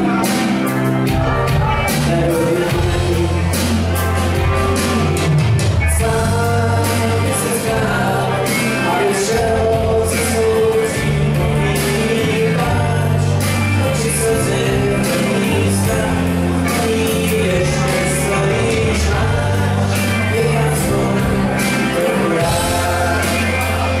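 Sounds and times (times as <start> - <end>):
held bass notes: 0.0 - 24.0
live rock band playing: 0.0 - 24.0
person singing: 0.0 - 24.0.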